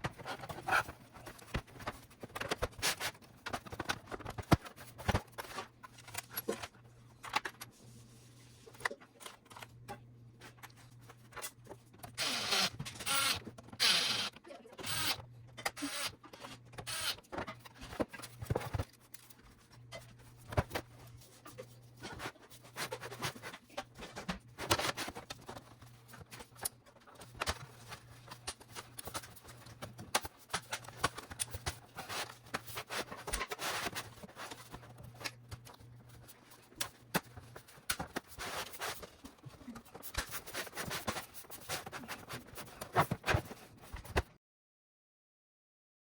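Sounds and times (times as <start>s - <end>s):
clicks and rustles of small objects: 0.0s - 12.2s, 15.5s - 44.3s.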